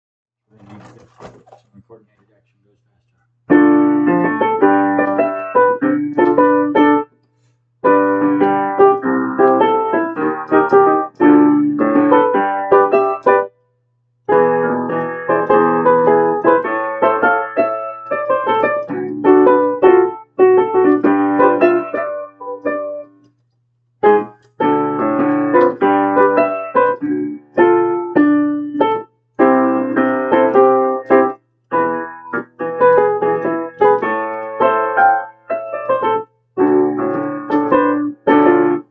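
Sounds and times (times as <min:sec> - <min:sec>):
piano chords: 0:03.5 - 0:07.2, 0:07.8 - 0:13.6, 0:14.2 - 0:23.3, 0:24.0 - 0:38.9.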